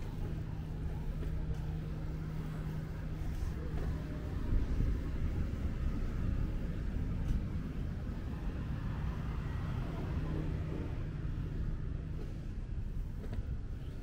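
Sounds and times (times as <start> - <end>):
city street rumble: 0.0 - 14.0
faint constant hum: 0.0 - 14.0.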